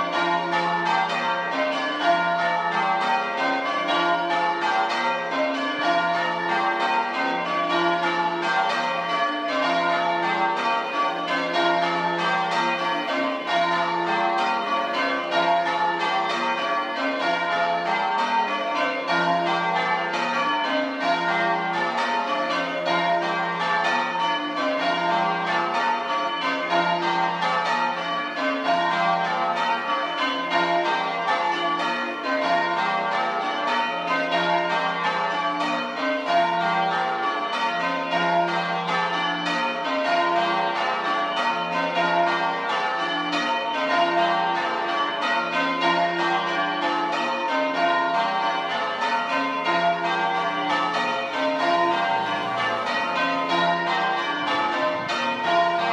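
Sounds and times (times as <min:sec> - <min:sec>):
church bells change ringing: 0:00.0 - 0:55.9.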